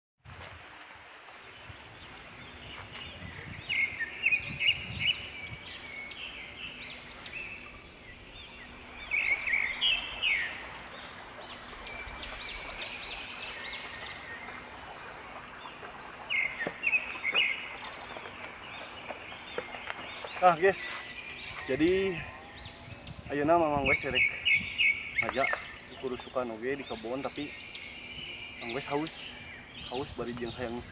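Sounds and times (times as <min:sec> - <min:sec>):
open-air background hiss: 0:00.2 - 0:30.9
songbird chirping: 0:01.2 - 0:30.9.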